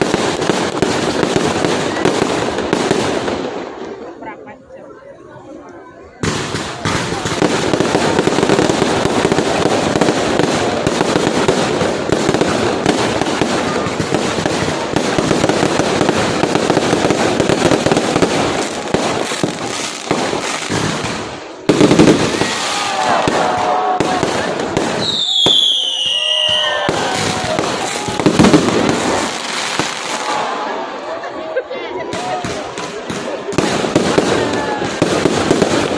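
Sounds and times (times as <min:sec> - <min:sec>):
fireworks crackling and banging: 0:00.0 - 0:35.9.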